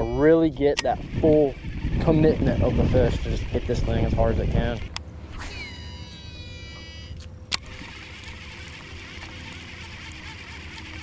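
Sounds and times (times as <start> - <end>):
fishing reel spool whining: 0.0 - 11.0.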